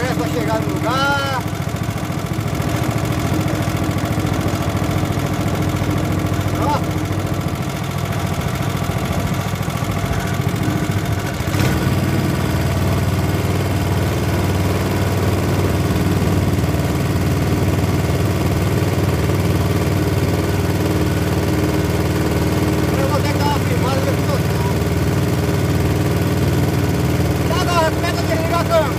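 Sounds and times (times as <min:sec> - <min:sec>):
small boat engine running: 0:00.0 - 0:28.9.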